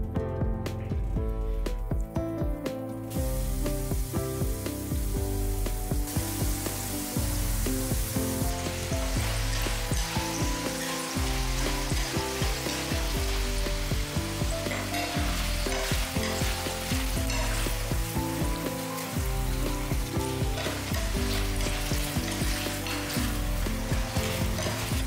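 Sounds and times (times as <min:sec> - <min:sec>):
oil sizzling deep-frying potatoes: 0:03.0 - 0:25.0.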